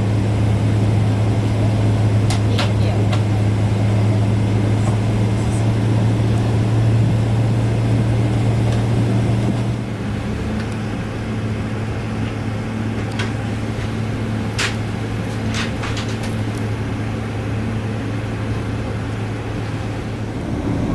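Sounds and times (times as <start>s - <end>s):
cabin ventilation drone: 0.0s - 20.9s.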